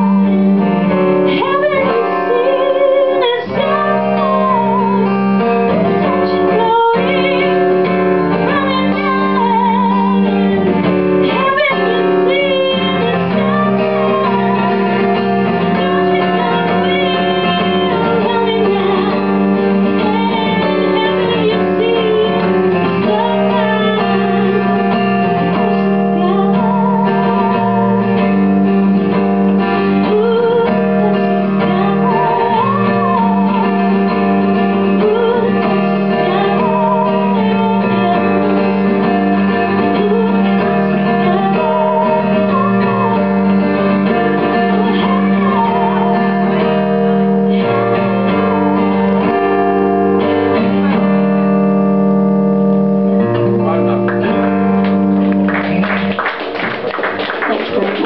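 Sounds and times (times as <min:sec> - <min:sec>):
woman singing with vibrato: 0:00.0 - 0:51.4
picked acoustic guitar: 0:00.0 - 0:58.0.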